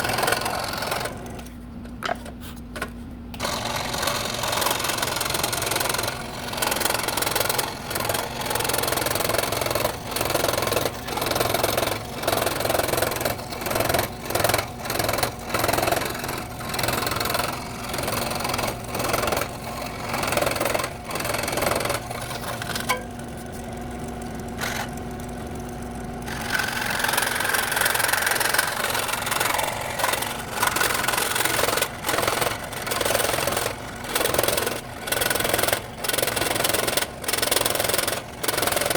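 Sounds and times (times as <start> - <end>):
saw motor running hum: 0.0 - 1.5, 3.4 - 38.9
scroll saw cutting wood: 0.0 - 1.5, 3.4 - 25.3, 26.2 - 38.9.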